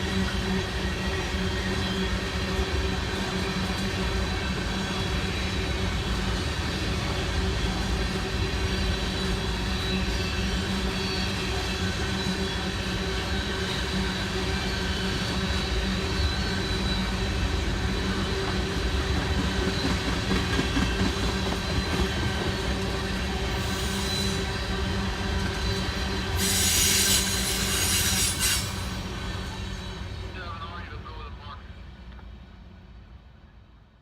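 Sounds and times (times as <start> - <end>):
wheels squealing on rails: 0.0 - 31.0
train cars rumbling past: 0.0 - 33.8.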